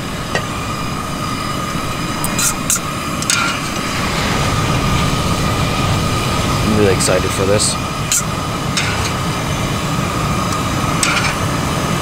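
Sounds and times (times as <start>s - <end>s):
camp stove burner hissing: 0.0s - 12.0s
water boiling: 0.0s - 12.0s.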